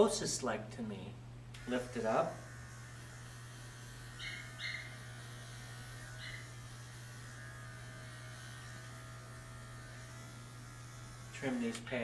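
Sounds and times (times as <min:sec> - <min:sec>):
pet clipper buzzing: 0:01.5 - 0:12.0.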